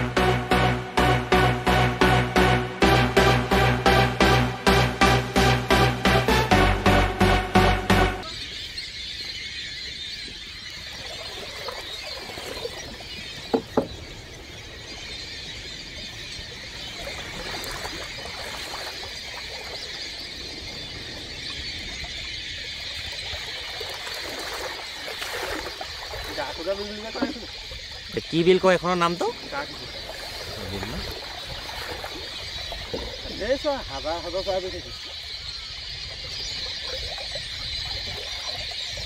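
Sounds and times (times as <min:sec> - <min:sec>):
flock of waterbirds calling: 0:00.0 - 0:39.0.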